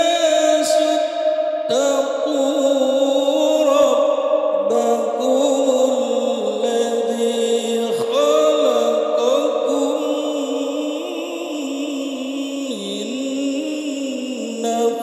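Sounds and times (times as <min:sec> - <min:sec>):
man reciting melodically into microphone: 0:00.0 - 0:15.0.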